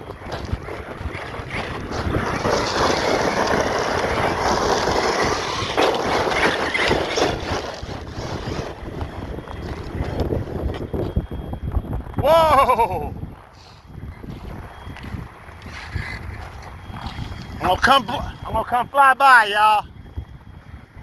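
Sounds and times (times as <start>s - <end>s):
rc truck tyres on gravel: 0.0s - 21.0s.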